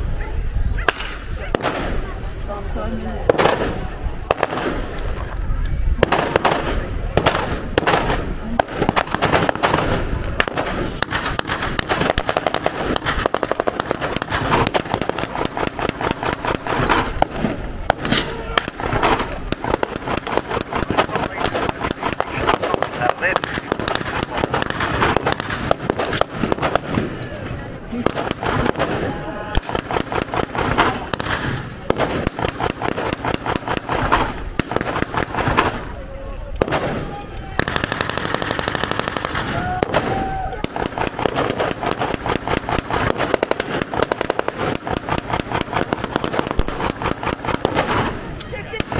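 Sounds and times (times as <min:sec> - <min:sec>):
gunfire cracks with echo: 0:00.8 - 0:02.2, 0:03.2 - 0:05.2, 0:06.0 - 0:48.9
rifle shots: 0:00.8 - 0:02.2, 0:03.3 - 0:05.2, 0:06.0 - 0:27.2, 0:27.9 - 0:35.9, 0:36.6 - 0:48.9
machine-gun burst: 0:06.0 - 0:27.2, 0:28.0 - 0:35.8, 0:37.6 - 0:48.9.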